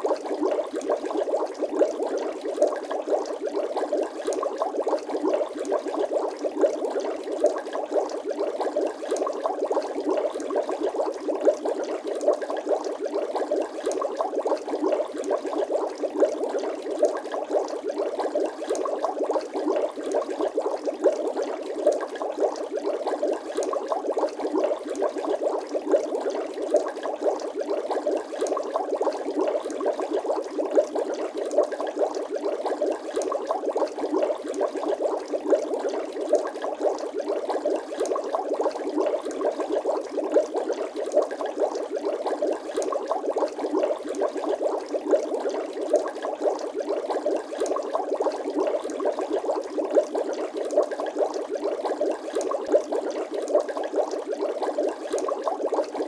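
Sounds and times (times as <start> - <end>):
water bubbling and gurgling: 0.0 - 56.0.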